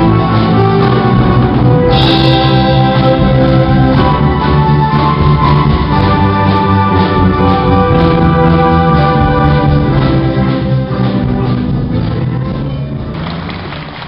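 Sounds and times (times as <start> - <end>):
electronic keyboards playing chords: 0.0 - 14.0
percussion: 0.0 - 14.0.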